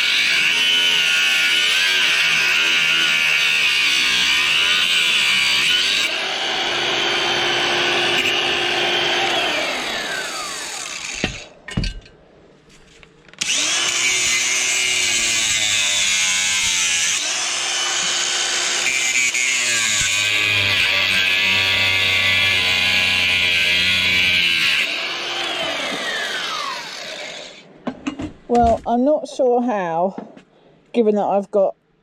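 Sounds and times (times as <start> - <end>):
angle grinder cutting metal: 0.0 - 11.6, 13.4 - 27.7.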